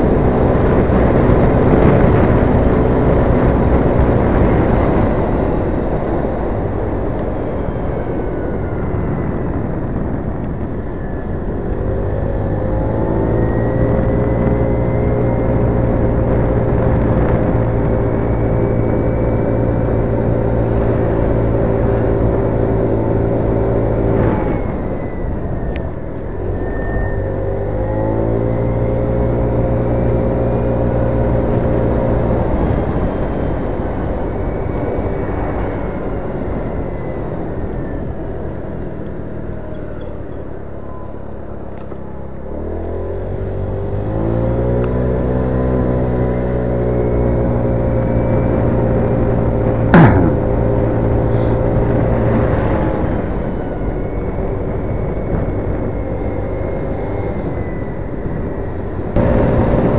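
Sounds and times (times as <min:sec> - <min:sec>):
scooter engine drone: 0:00.0 - 0:59.9
wind and road noise: 0:00.0 - 0:59.9.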